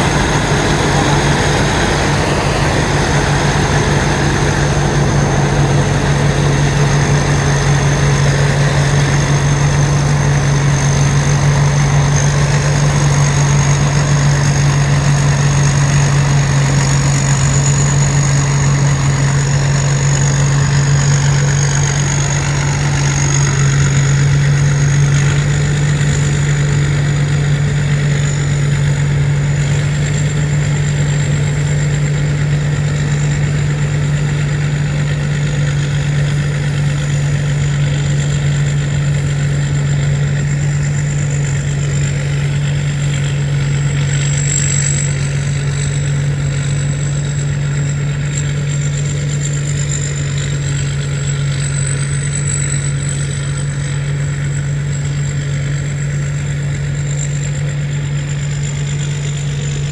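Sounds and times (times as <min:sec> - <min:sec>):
combine harvester engine hum: 0:00.0 - 0:59.9
thin high whine: 0:00.0 - 0:59.9.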